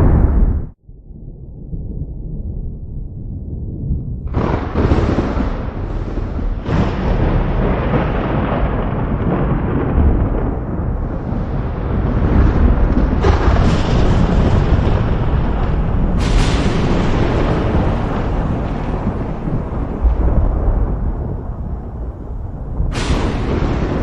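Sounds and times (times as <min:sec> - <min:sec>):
thunder cracks: 0:00.0 - 0:00.8, 0:01.7 - 0:24.0
thunder rumbling: 0:00.0 - 0:24.0.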